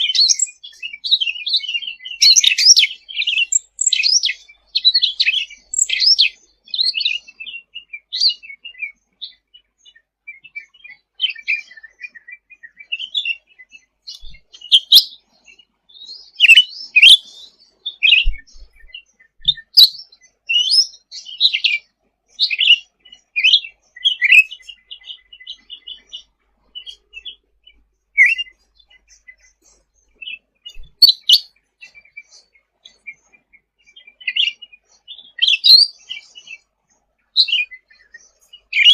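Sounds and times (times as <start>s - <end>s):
songbird chirping and whistling: 0.0s - 36.7s, 37.3s - 38.9s.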